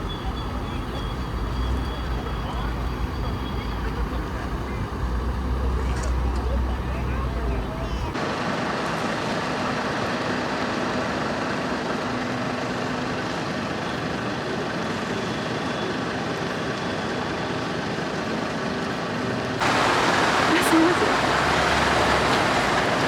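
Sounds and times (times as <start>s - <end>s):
fire truck engines running: 0.0s - 23.0s.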